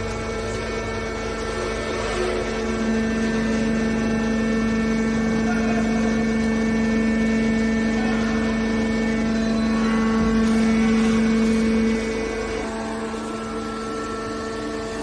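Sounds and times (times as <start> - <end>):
baler machine humming: 0.0 - 15.0.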